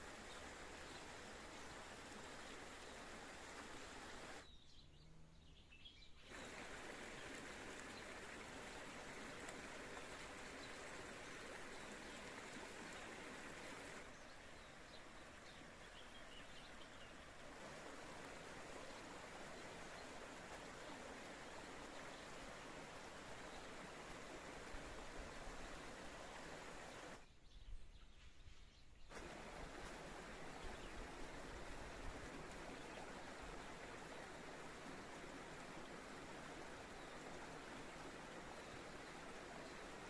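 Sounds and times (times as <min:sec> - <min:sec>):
flowing spring water: 0:00.0 - 0:04.5, 0:06.0 - 0:27.2, 0:29.1 - 0:40.0.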